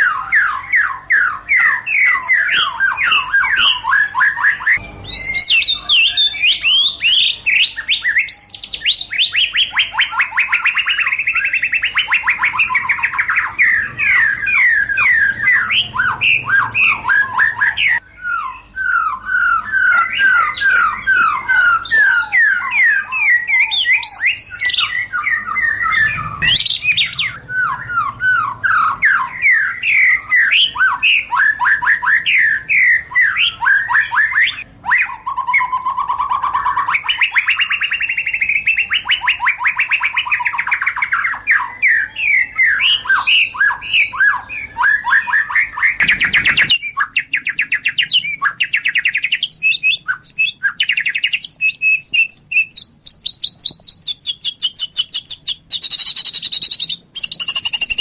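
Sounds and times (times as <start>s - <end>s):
bird buzzy trill: 0.0s - 58.0s
bird singing varied whistles: 0.0s - 58.0s.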